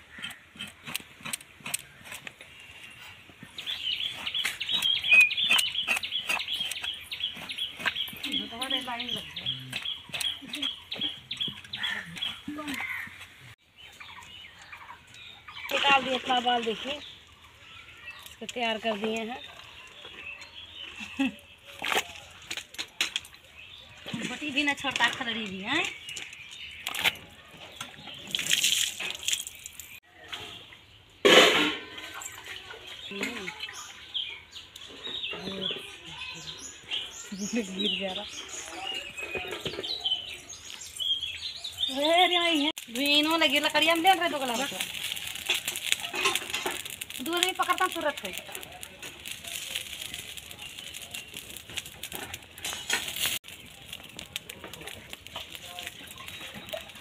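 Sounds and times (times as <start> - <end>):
straw fire crackling and popping: 0.0 - 30.0, 36.5 - 57.0.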